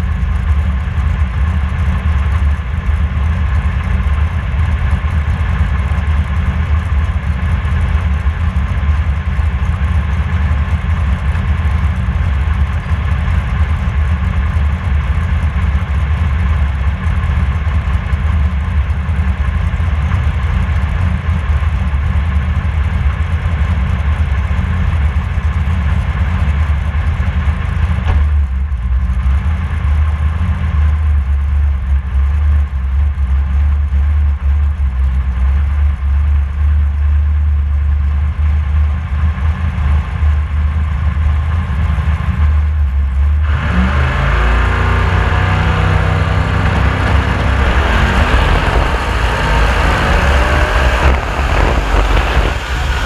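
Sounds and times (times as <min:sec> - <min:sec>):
race car engine idling: 0:00.0 - 0:53.0.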